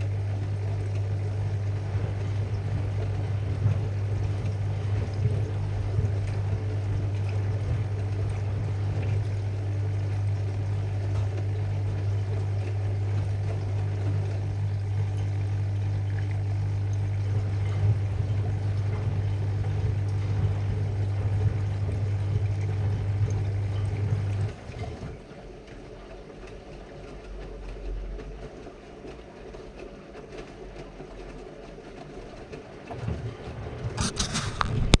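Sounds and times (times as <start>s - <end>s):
mains hum: 0.0s - 35.0s
washing machine running: 0.0s - 35.0s
water filling washing machine: 0.0s - 35.0s.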